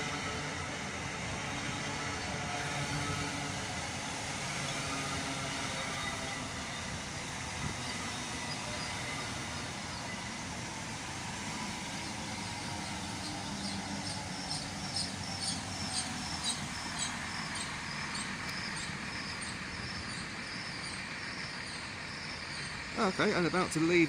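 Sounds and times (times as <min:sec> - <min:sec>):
train running at platform: 0:00.0 - 0:24.0.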